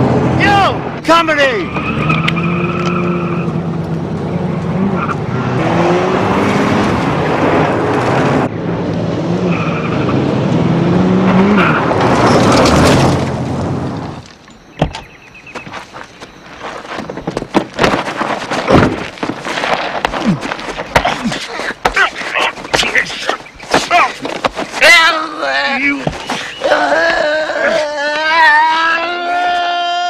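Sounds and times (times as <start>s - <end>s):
tyres skidding on dirt: 0.0s - 30.0s.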